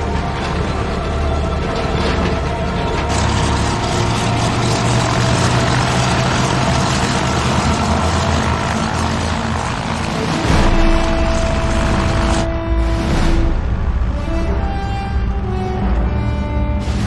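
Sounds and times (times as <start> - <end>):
propeller engines droning: 0.0 - 17.0.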